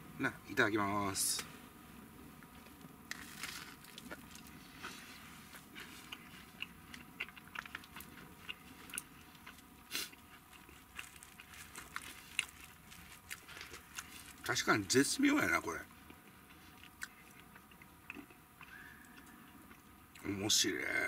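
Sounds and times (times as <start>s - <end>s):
crunching and chewing toast: 2.5s - 15.0s, 15.9s - 20.2s.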